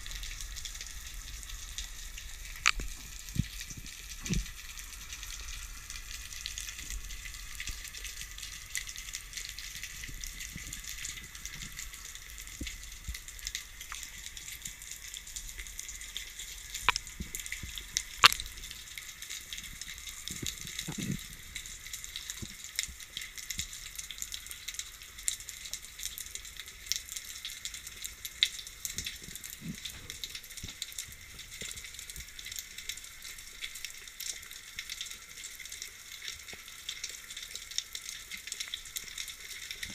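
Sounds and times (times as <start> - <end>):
underwater fizzing crackle: 0.0 - 39.9.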